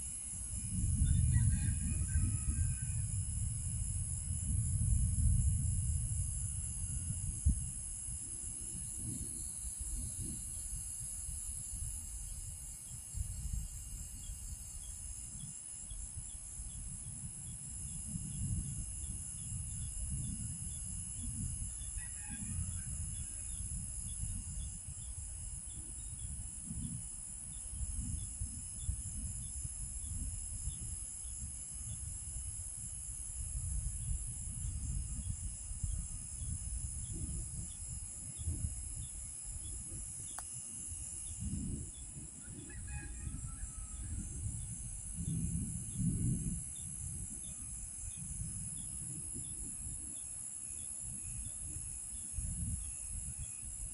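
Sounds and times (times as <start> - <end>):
chorus of insects: 0.0 - 53.9
wind gusting over microphone: 0.0 - 53.9.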